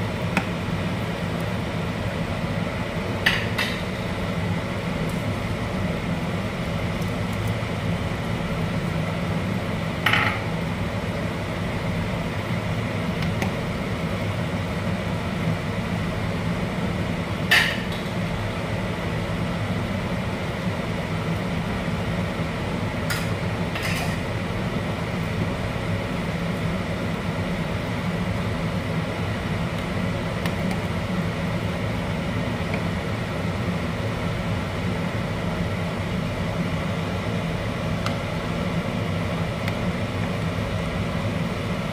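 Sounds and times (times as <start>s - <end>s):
low kitchen hum: 0.0s - 41.9s.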